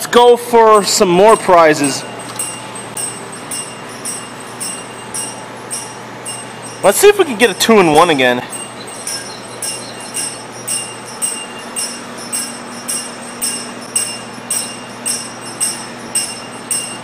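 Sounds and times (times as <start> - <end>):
low steady hum: 0.0 - 17.0
electronic bell-like ding: 0.8 - 17.0.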